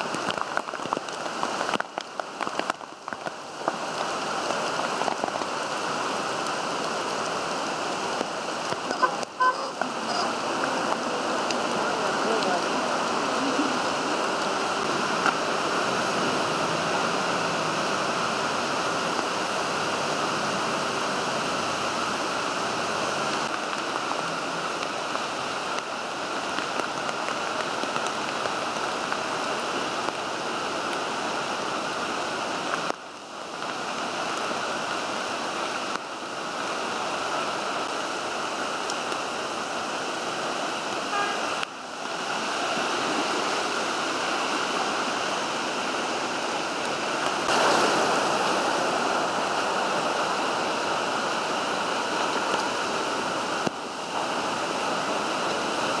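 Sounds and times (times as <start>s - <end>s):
heavy rain: 0.0s - 56.0s
rainwater running in street: 0.0s - 56.0s.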